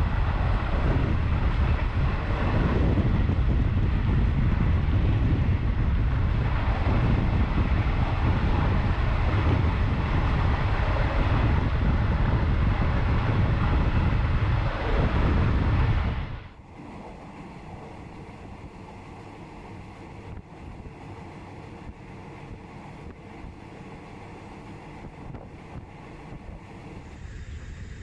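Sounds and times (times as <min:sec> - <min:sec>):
moving train rumble: 0:00.0 - 0:28.0
wind buffeting microphone: 0:00.0 - 0:28.0.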